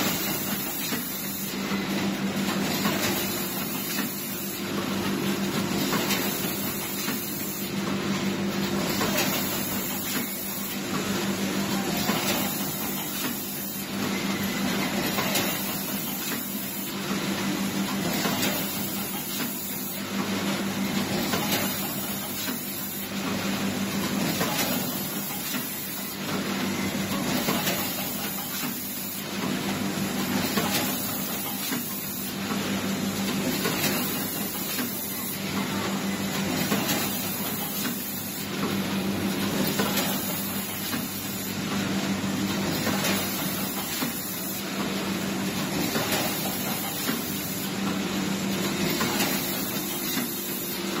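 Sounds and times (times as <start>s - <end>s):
packaging machine hum: 0.0s - 51.0s.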